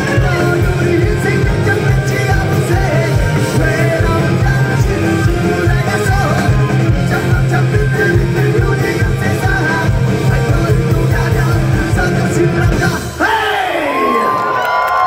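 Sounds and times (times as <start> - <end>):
bass guitar: 0.0 - 13.2
electric guitars: 0.0 - 13.2
fast drum beat: 0.0 - 13.4.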